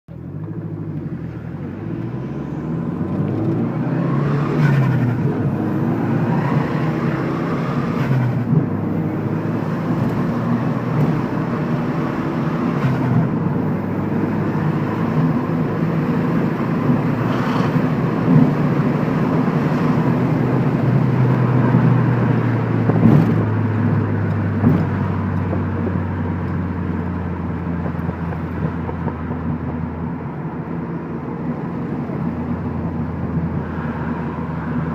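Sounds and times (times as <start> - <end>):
car engine running hard: 0.1 - 34.9.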